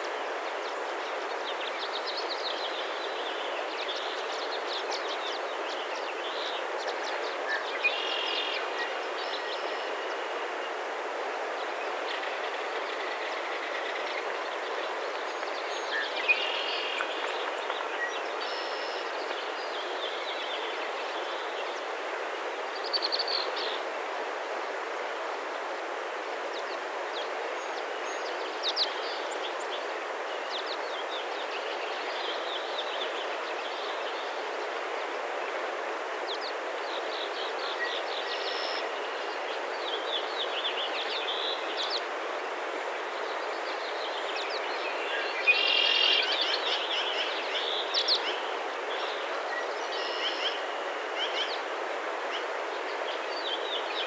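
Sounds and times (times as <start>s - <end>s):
small birds chirping and twittering: 0.0s - 24.1s, 25.4s - 54.0s
rushing outdoor hiss: 0.0s - 54.0s.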